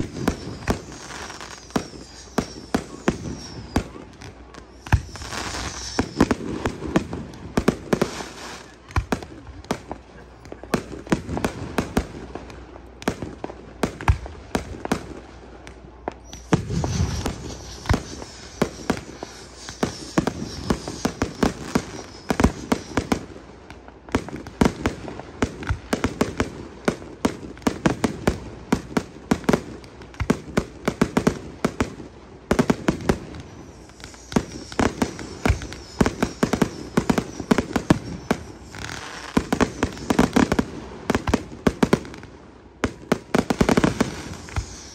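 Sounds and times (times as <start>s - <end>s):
fireworks bangs: 0.0s - 44.9s
fireworks hissing crackle: 0.0s - 44.9s.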